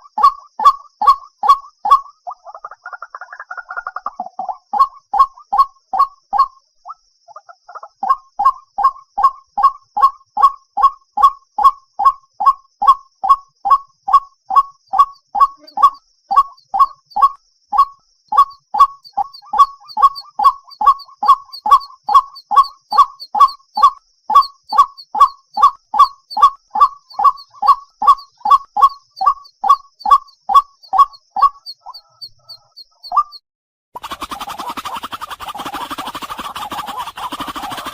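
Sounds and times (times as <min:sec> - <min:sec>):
bird calling hoarse notes: 0:04.0 - 0:33.4, 0:34.0 - 0:37.9.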